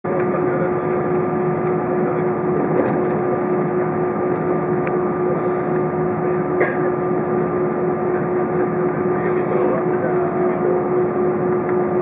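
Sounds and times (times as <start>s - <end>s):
jet engines idling: 0.1s - 12.0s.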